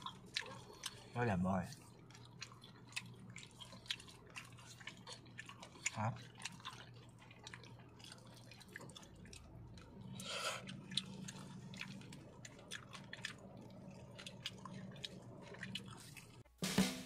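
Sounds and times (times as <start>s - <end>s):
chewing: 0.0s - 16.5s
steady low hum: 0.0s - 16.8s.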